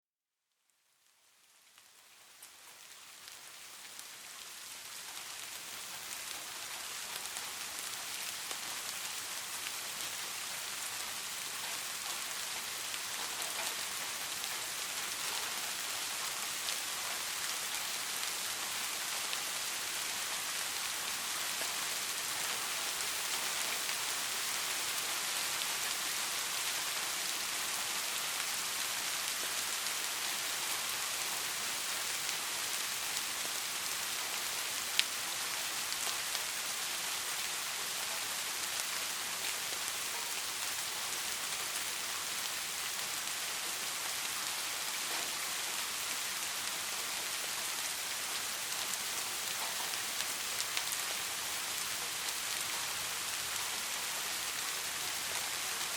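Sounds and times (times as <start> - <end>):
steady rainfall: 0.8 - 55.9.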